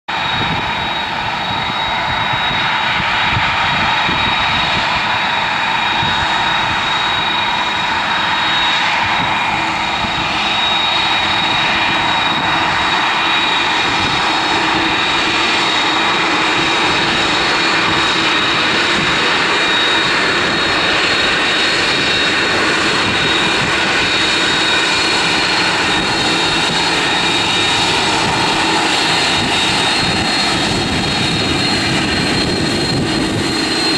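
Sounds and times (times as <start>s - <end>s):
jet engines running: 0.1s - 33.9s.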